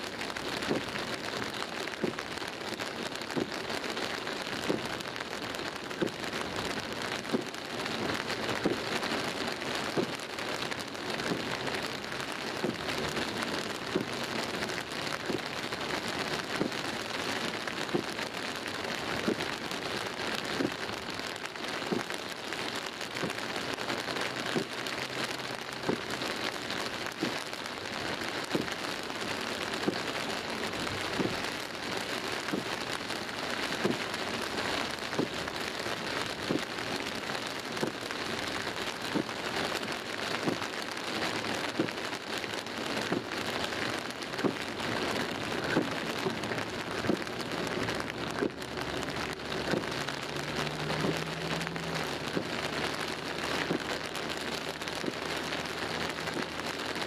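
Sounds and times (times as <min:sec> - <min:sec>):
heavy rain on car windscreen: 0:00.0 - 0:57.0.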